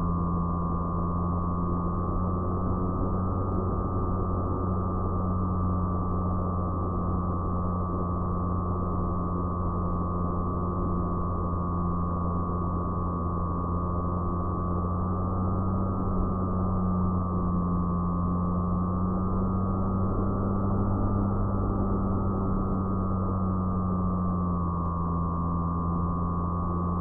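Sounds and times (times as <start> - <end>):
electric motor high whine: 0.0 - 27.0
low drone: 0.0 - 27.0.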